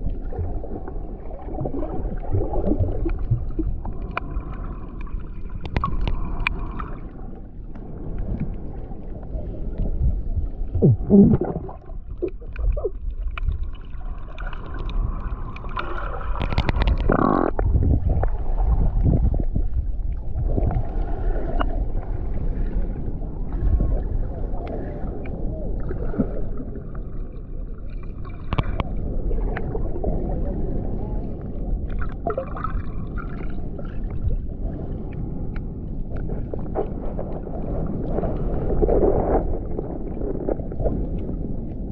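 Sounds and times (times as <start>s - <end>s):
muffled underwater rush and gurgle: 0.0s - 41.9s.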